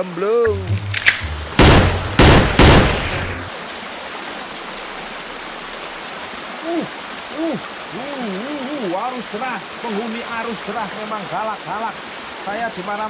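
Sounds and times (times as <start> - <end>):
stream rushing over stones: 0.0 - 13.0.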